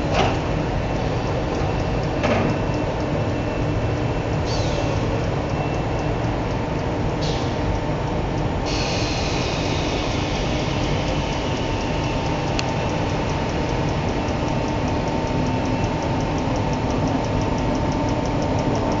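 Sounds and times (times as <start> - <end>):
fast light ticking: 0.0 - 19.0
wire drawing machine droning: 0.0 - 19.0.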